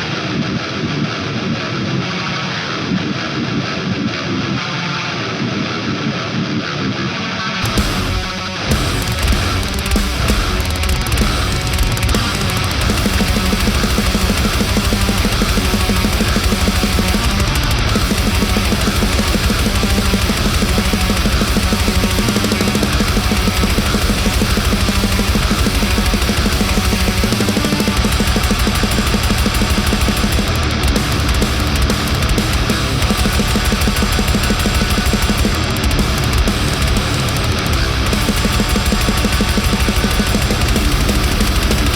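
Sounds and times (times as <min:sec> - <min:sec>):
distorted electric guitar riffing: 0:00.0 - 0:41.9
drum kit: 0:07.6 - 0:41.9.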